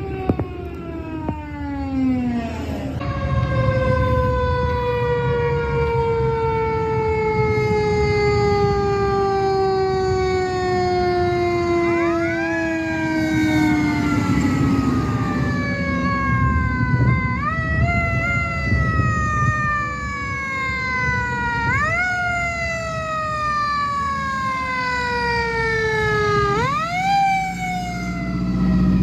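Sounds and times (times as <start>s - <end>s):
fire truck siren winding down: 0.0s - 29.0s
siren tone sweeping up: 0.0s - 29.0s.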